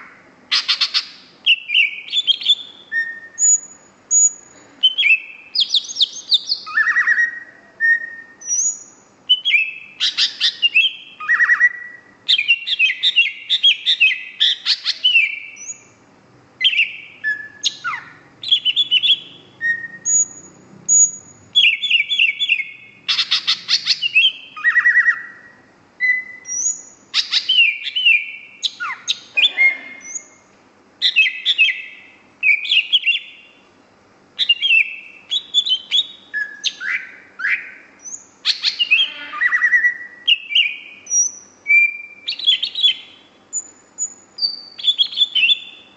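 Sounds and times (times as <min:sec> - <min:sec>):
small bird chirping and whistling: 0:00.0 - 0:16.0, 0:16.6 - 0:30.4, 0:31.0 - 0:33.6, 0:34.4 - 0:45.9.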